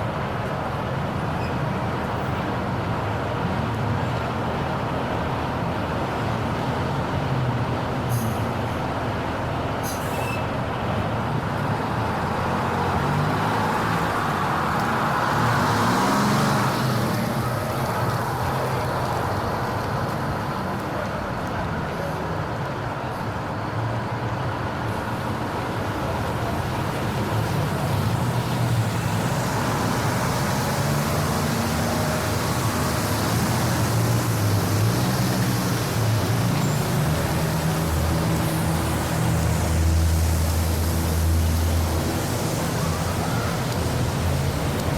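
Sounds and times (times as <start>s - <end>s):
road noise rumble: 0.0s - 44.9s
vehicle engines running: 0.0s - 44.9s.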